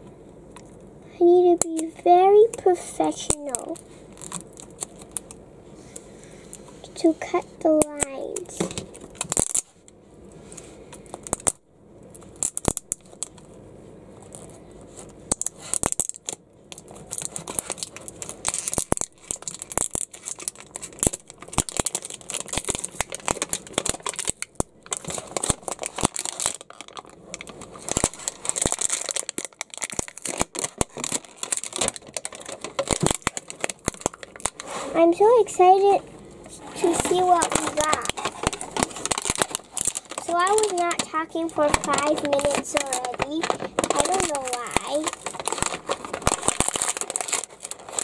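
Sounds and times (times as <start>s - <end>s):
plastic wrapping crinkling and tearing: 1.3s - 5.4s, 6.5s - 9.9s, 10.6s - 13.6s, 14.2s - 35.6s, 36.5s - 48.0s.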